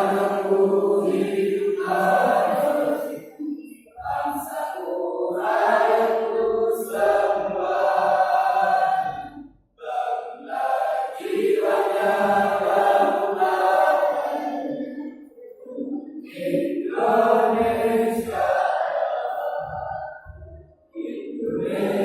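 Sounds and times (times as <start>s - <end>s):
choir singing: 0.0s - 22.0s.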